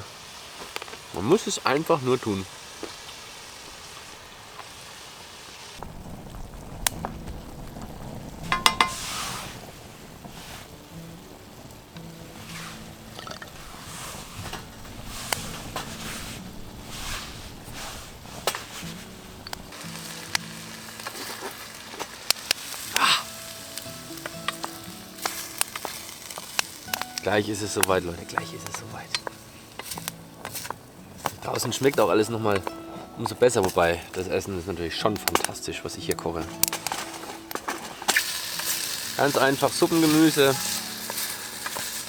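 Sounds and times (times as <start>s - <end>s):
food sizzling in a pan: 0.0s - 42.0s
fat spitting and crackling: 5.8s - 42.0s.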